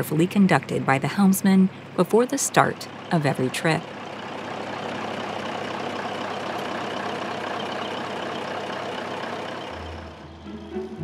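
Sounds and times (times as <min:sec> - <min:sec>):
diesel boat engine running: 0:00.0 - 0:11.0.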